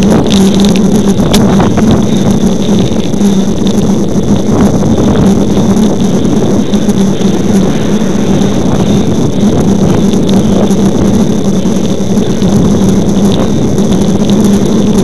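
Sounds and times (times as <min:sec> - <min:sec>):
bike rolling on asphalt: 0:00.0 - 0:15.0
wind rushing over microphone: 0:00.0 - 0:15.0.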